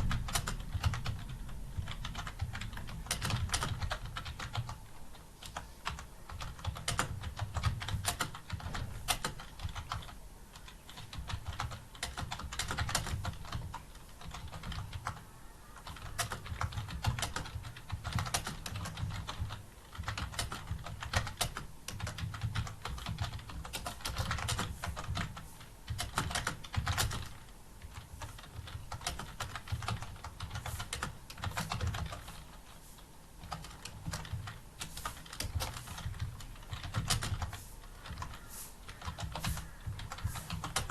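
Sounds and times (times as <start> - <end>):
computer keyboard typing: 0.0 - 40.9.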